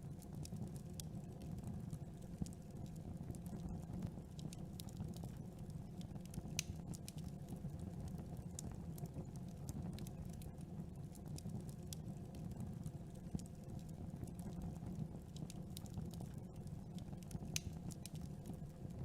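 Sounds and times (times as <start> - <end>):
burning wood crackling and popping: 0.0 - 19.0.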